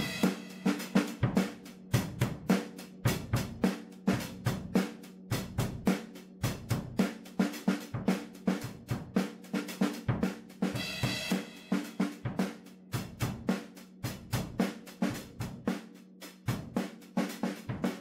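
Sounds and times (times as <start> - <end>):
drum kit fast beat: 0.0 - 18.0.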